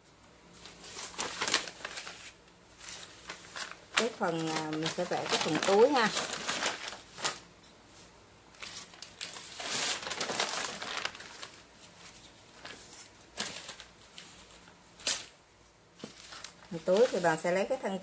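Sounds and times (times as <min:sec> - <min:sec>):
paper rustling and crinkling: 0:00.6 - 0:15.4, 0:16.0 - 0:17.8.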